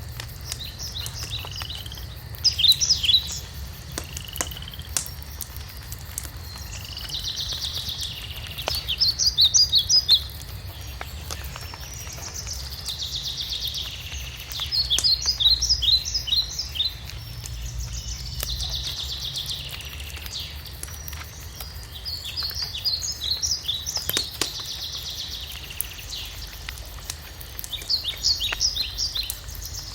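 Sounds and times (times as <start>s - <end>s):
songbird singing: 0.0s - 29.9s
wood fire crackling and popping: 0.0s - 29.9s.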